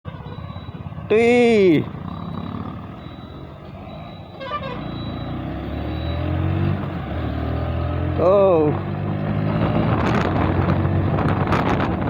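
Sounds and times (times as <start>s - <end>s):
motorcycle engine accelerating: 0.5s - 12.0s.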